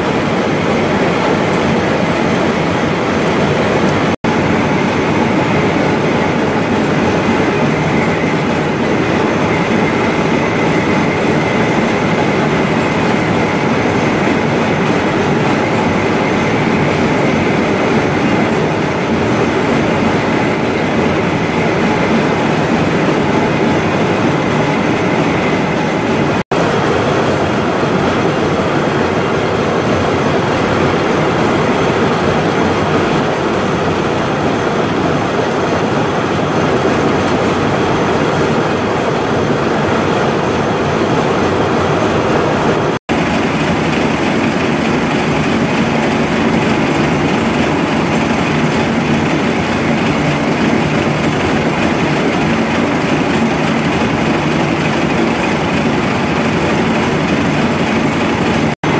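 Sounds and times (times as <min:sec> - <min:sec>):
lathe machining noise: 0:00.0 - 0:58.9.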